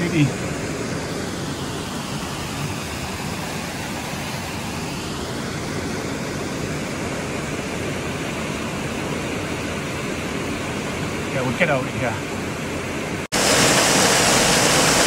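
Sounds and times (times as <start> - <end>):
fast-flowing stream water: 0.0 - 15.0.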